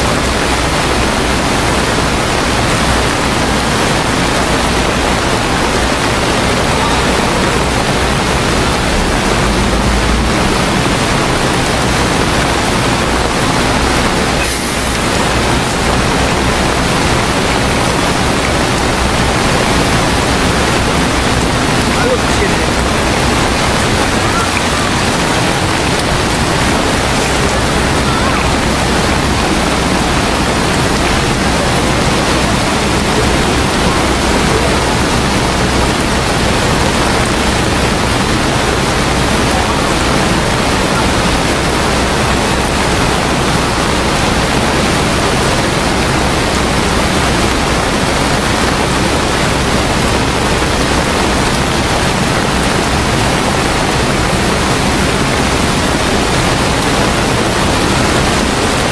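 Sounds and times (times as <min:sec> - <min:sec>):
loud rushing water: 0:00.0 - 0:58.9.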